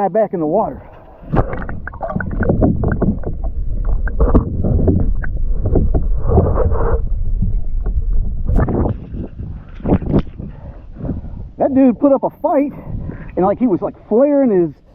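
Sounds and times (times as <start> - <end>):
water splashing: 0.7 - 14.3
steady low rumble: 0.7 - 14.9.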